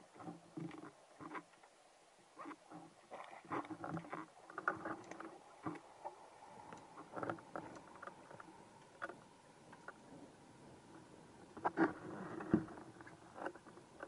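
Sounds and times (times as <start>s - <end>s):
faint steady tone: 0.0s - 14.0s
underwater clicks and crackles: 0.0s - 14.0s.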